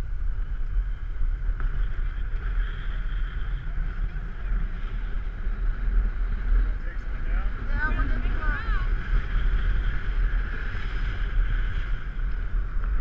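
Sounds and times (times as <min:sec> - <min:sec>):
snow tubes sliding on snow: 0:00.0 - 0:13.0
wind rushing over microphone: 0:00.0 - 0:13.0.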